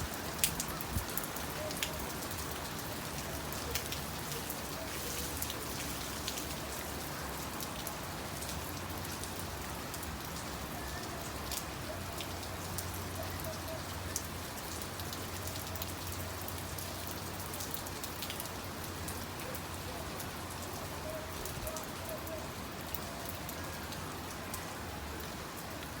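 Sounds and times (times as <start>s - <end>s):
rain drops ticking: 0.0s - 26.0s.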